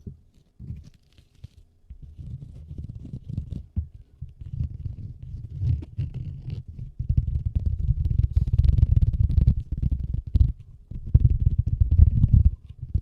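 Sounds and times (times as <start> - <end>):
key case rubbing on microphone: 0.0 - 13.0.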